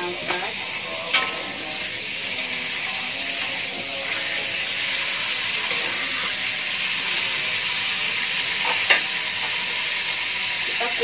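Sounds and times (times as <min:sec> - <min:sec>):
squid sizzling in hot oil: 0:00.0 - 0:11.0.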